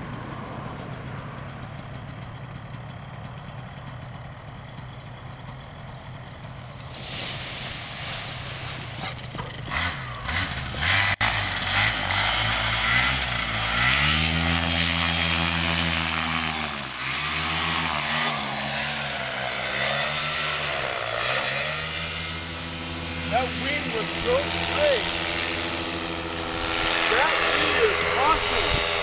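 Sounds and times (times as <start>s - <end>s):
paramotor engine and propeller: 0.0s - 29.0s.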